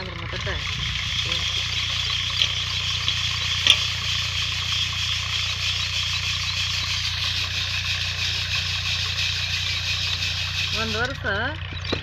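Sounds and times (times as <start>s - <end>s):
grains rattling in a sieve: 0.0s - 11.2s
low engine-like hum: 0.0s - 12.0s.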